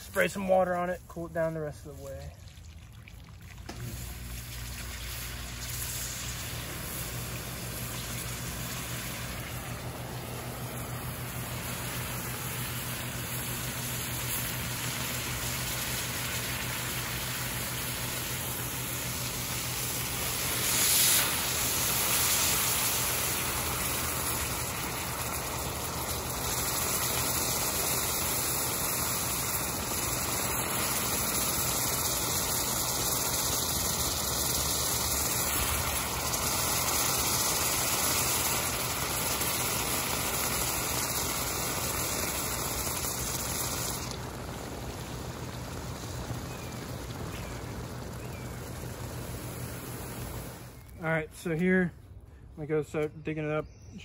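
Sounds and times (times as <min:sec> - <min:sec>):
water spraying from a hose: 0:00.0 - 0:51.0
hot metal steaming: 0:03.7 - 0:51.5.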